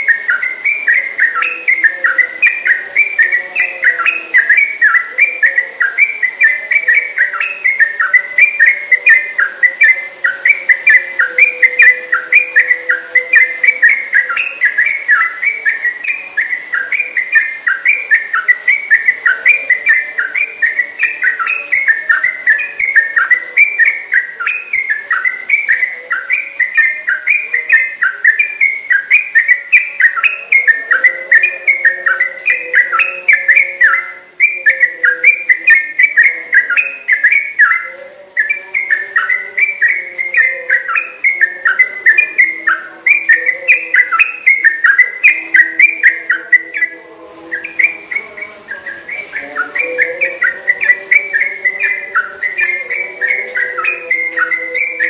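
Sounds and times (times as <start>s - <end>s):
bird singing whistled notes: 0.0s - 55.0s.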